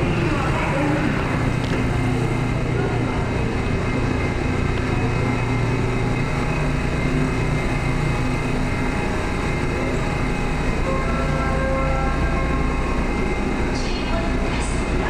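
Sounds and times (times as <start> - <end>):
subway train humming: 0.0 - 15.0.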